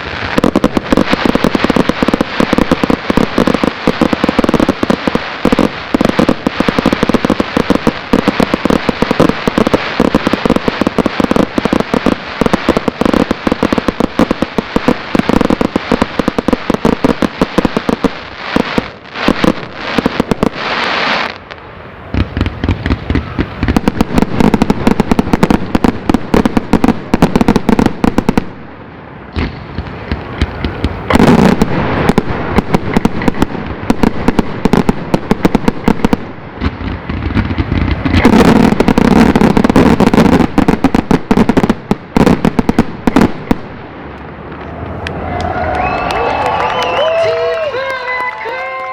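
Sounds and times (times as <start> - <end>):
firework hiss: 0.0 - 43.8
fireworks bangs and crackling: 0.0 - 48.9.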